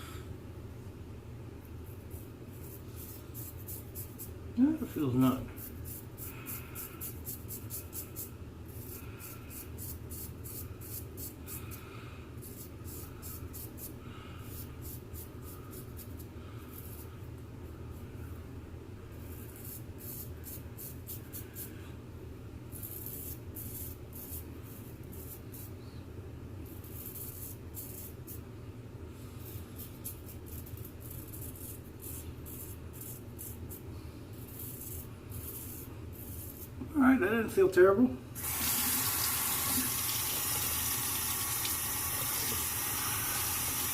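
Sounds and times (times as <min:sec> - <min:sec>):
steady low hum: 0:00.0 - 0:38.5.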